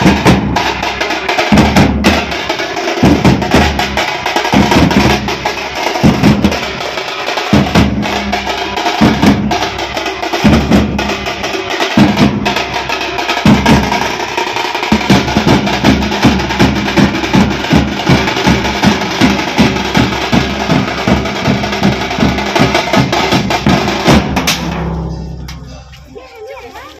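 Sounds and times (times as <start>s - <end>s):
drum troupe drumming: 0.0s - 26.3s.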